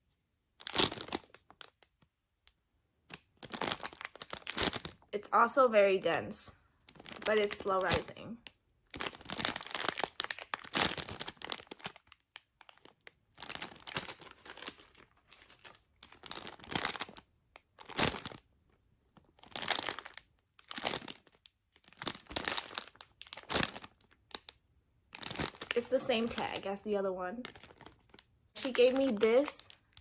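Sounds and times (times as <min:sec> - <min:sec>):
plastic wrapping crinkling: 0:00.6 - 0:02.1, 0:03.1 - 0:18.5, 0:19.1 - 0:30.0.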